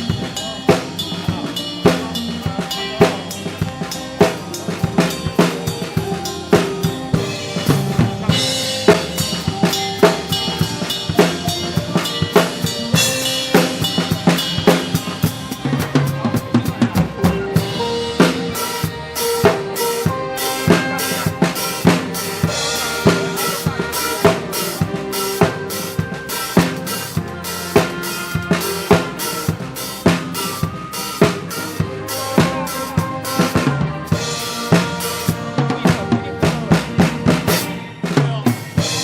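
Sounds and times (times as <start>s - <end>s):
drum kit beat: 0.0s - 39.0s
live band playing dance tune: 0.0s - 39.0s.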